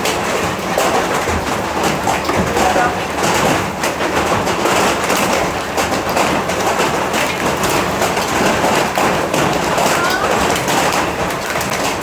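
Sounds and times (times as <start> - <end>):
hailstones pelting hard surfaces: 0.0 - 12.0.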